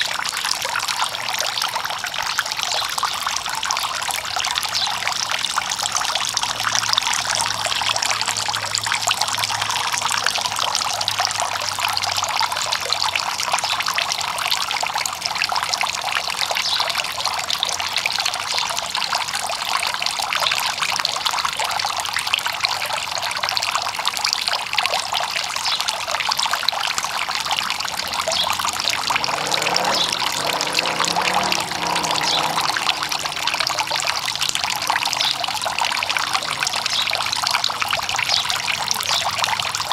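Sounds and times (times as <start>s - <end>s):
fountain water trickling: 0.0s - 39.9s.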